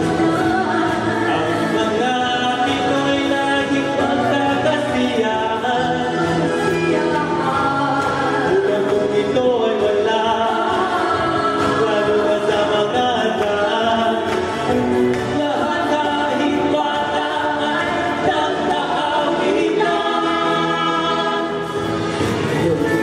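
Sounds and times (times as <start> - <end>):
vocal group singing in harmony: 0.0 - 23.0.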